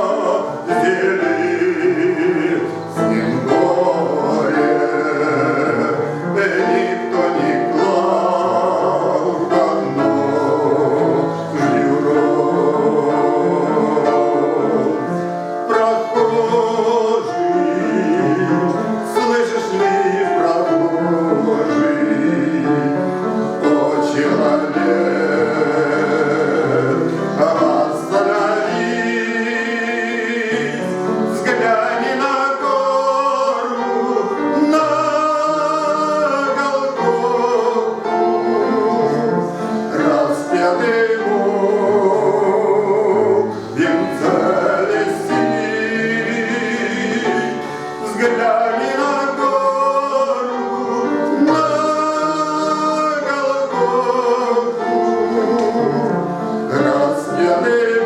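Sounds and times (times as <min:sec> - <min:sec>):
instrumental accompaniment: 0:00.0 - 0:58.0
man singing a hymn: 0:00.0 - 0:58.0.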